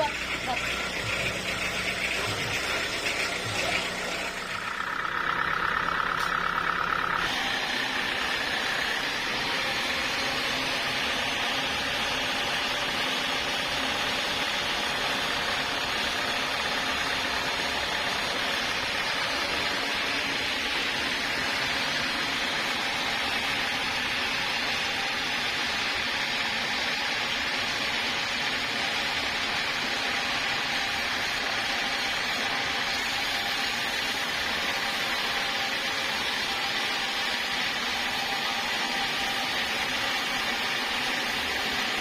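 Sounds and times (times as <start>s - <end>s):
sawmill machinery hissing: 0.0s - 42.0s
sawmill machinery whining: 0.0s - 42.0s.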